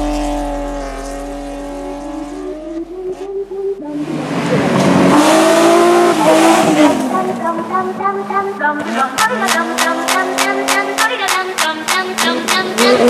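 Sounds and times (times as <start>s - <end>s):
rally car engine at high revs: 0.0s - 3.2s, 3.9s - 13.0s
car engine passing close: 0.0s - 13.0s.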